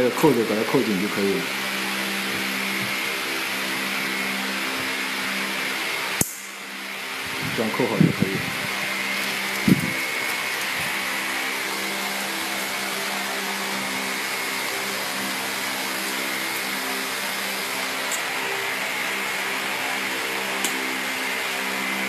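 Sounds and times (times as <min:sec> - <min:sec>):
whirring machine with high whine: 0:00.0 - 0:22.0.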